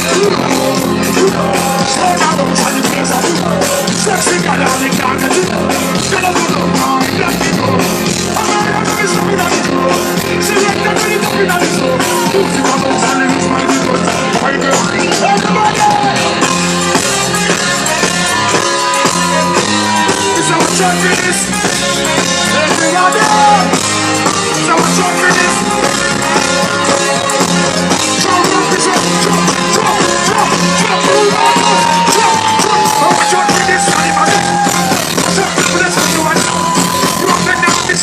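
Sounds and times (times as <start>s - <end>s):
live band music: 0.0s - 38.0s.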